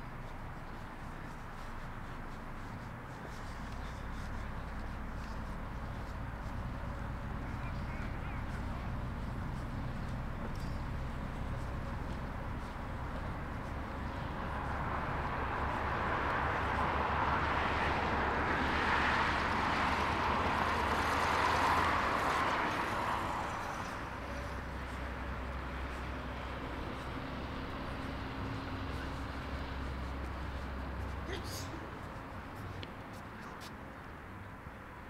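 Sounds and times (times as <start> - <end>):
vehicle passing by: 0.0 - 34.4.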